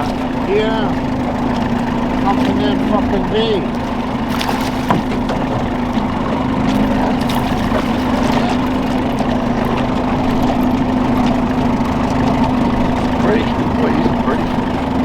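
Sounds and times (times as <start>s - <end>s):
outboard motor running: 0.0s - 15.0s
water noise: 0.0s - 15.0s.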